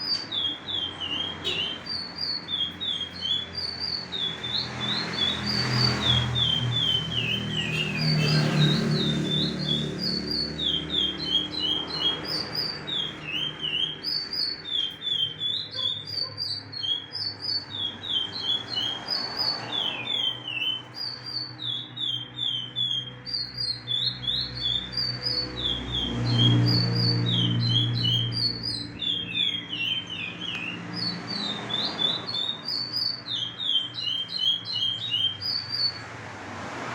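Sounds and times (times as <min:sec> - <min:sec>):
finch singing whistled notes: 0:00.0 - 0:36.1.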